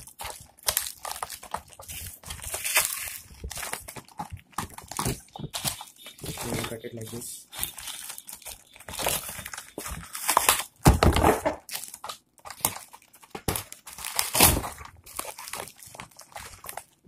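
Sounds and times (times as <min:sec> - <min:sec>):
plastic mailer crinkling: 0:00.0 - 0:17.0
scissors cutting plastic: 0:00.0 - 0:17.0.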